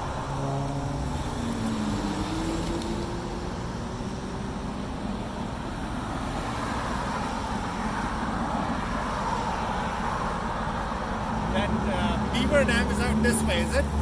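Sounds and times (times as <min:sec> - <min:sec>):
road and wind rumble: 0:00.0 - 0:14.0.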